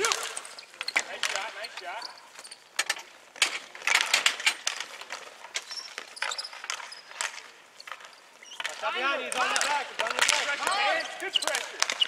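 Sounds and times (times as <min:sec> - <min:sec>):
hockey sticks clacking: 0:00.0 - 0:12.0.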